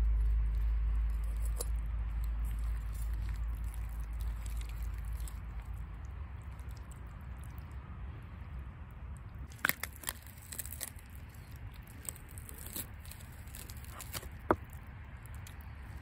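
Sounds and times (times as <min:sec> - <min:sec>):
low steady rumble: 0:00.0 - 0:16.0
wet tearing and squelching: 0:00.1 - 0:07.8, 0:09.4 - 0:16.0.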